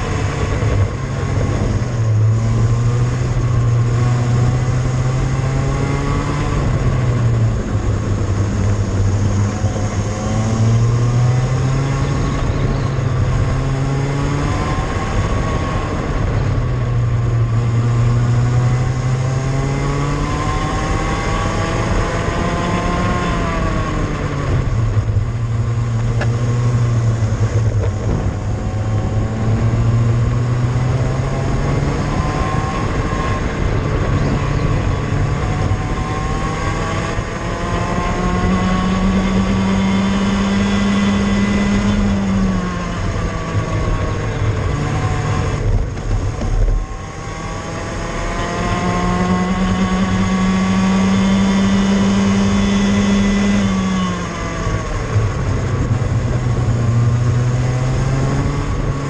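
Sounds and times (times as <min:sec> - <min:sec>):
go-kart engine accelerating: 0:00.0 - 0:59.0.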